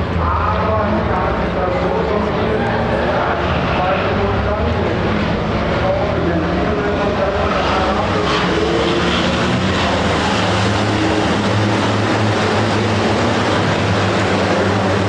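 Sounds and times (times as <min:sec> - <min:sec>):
truck diesel engines droning: 0:00.0 - 0:15.0.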